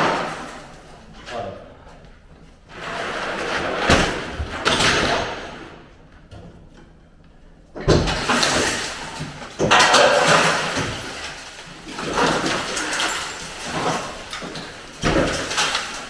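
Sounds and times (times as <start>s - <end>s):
metal bangs and scraping: 0.0s - 1.4s, 2.7s - 6.1s, 7.8s - 16.0s.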